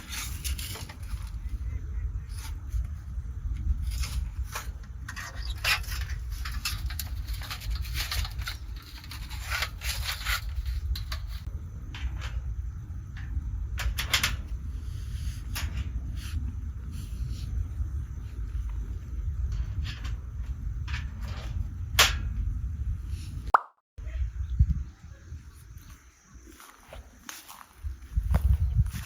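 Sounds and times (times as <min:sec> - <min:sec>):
steady low rumble: 0:00.0 - 0:09.5, 0:10.1 - 0:25.5.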